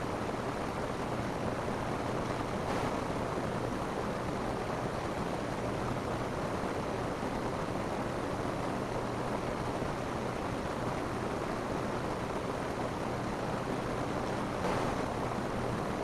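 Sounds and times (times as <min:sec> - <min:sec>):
rain falling on a roof: 0:00.0 - 0:16.0.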